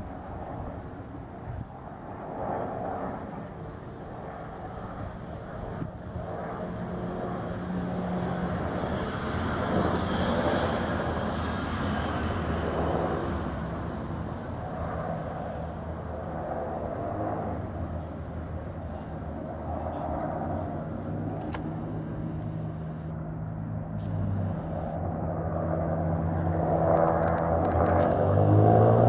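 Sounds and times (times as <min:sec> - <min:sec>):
distant engine drone: 0:00.0 - 0:29.0.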